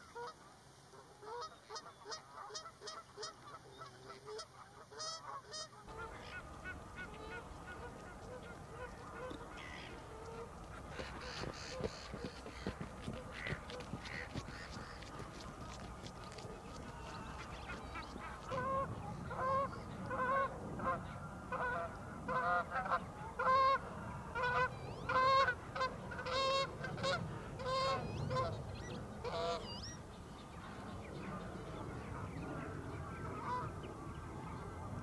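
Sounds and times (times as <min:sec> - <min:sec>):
geese honking: 0:01.0 - 0:30.0, 0:33.2 - 0:33.7.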